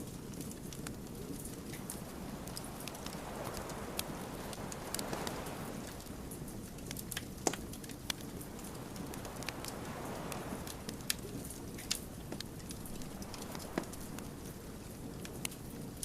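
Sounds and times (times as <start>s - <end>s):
low rush of burning logs: 0.0s - 16.0s
wood fire popping and snapping: 0.0s - 16.0s.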